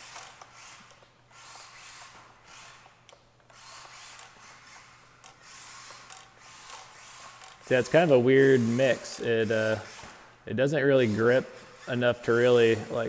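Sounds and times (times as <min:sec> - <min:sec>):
small electric motor whirring: 0:00.0 - 0:13.0.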